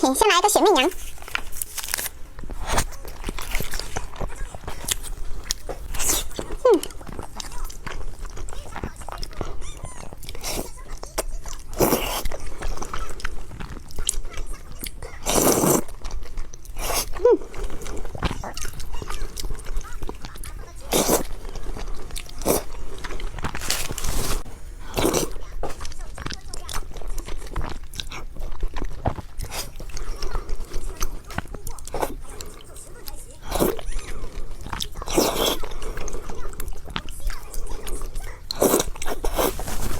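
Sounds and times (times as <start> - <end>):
person chewing soft food: 0.0 - 39.9
wet mouth noises: 0.0 - 39.9.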